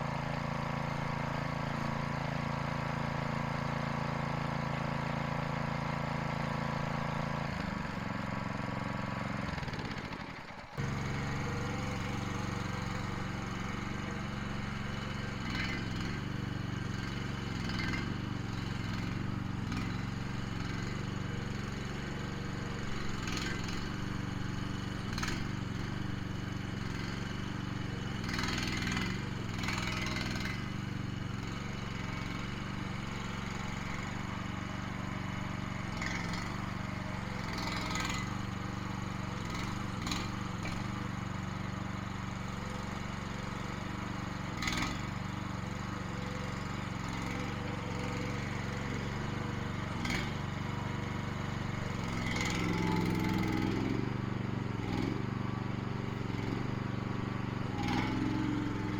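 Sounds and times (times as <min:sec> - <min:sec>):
small engine running: 0:00.0 - 0:58.9.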